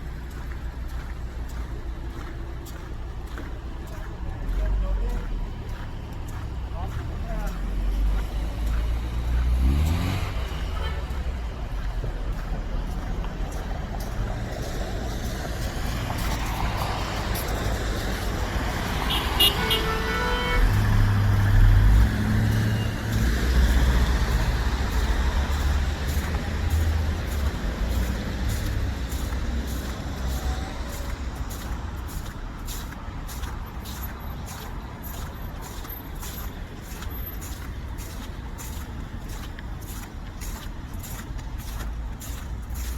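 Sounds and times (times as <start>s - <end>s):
vehicles passing with engine rumble: 0.0s - 42.9s.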